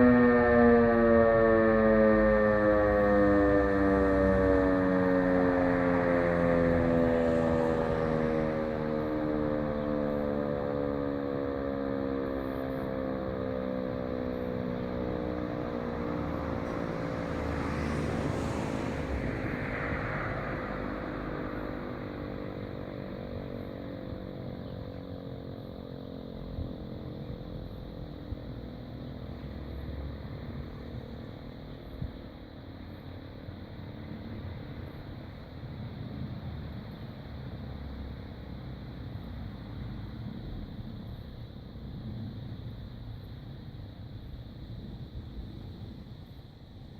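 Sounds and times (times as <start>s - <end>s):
air raid siren winding down: 0.0s - 46.9s
outdoor background noise: 0.0s - 46.9s.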